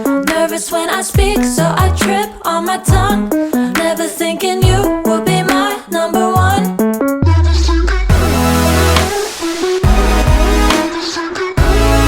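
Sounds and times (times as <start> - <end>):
electronic pop music: 0.0 - 12.0.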